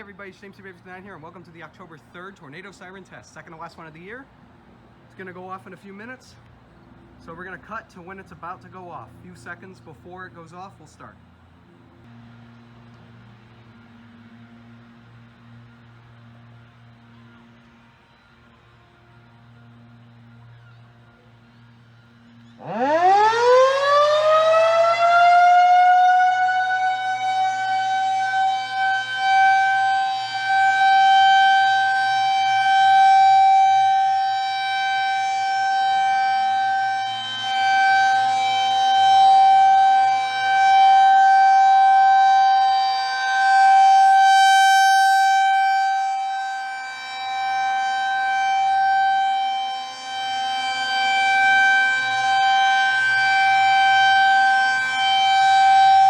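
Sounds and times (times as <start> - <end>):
rotating warning siren: 7.2 - 56.0.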